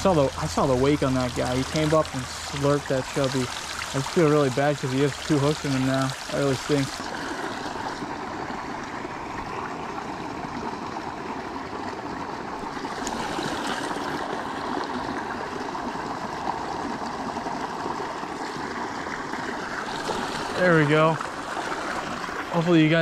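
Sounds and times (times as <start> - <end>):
creek rushing over stone: 0.0 - 23.0.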